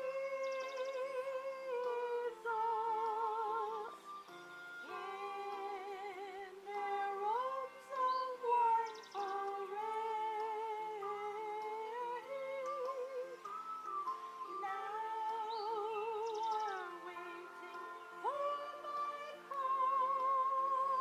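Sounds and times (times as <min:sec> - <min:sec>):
slow melody with vibrato: 0:00.0 - 0:21.0.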